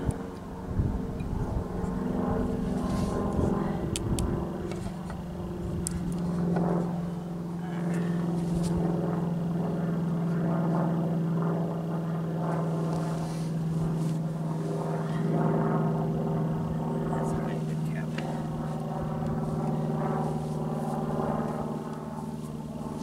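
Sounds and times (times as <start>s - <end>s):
steady engine drone: 0.0s - 23.0s.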